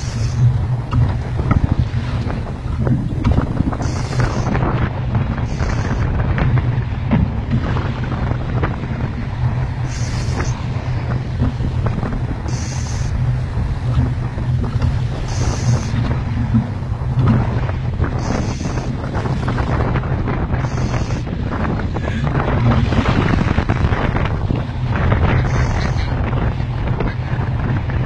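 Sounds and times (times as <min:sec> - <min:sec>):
steady low rumble: 0:00.0 - 0:28.0
wind buffeting microphone: 0:00.0 - 0:28.0.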